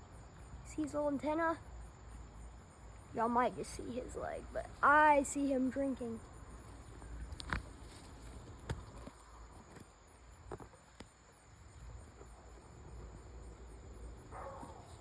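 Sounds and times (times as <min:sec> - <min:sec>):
faint insect calls: 0:00.0 - 0:15.0.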